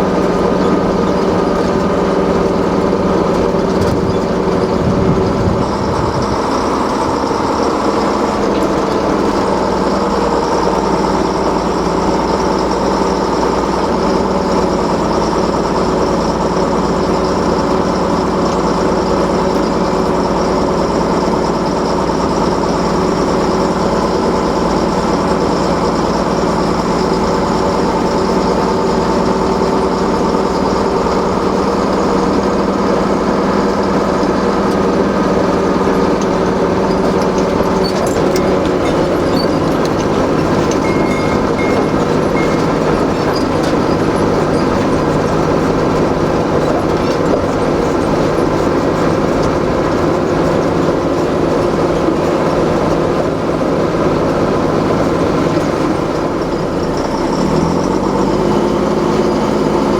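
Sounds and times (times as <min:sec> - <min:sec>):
lorry engine running: 0:00.0 - 0:59.9.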